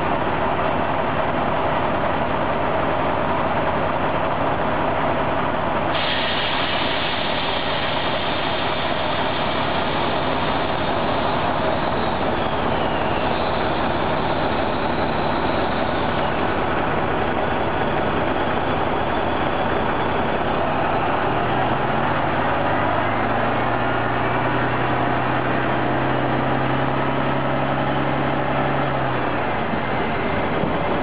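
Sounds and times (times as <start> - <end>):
railcar wheels on rail: 0.0 - 31.0.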